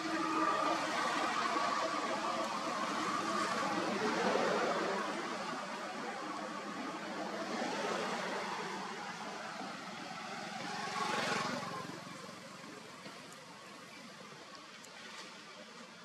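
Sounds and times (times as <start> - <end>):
motor vehicle passing: 0.0 - 13.1
background noise: 0.0 - 16.0.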